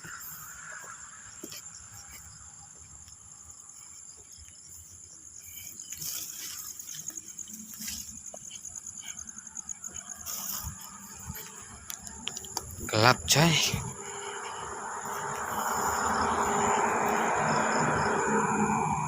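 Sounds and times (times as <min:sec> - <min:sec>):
night insects chorus: 0:00.0 - 0:19.0.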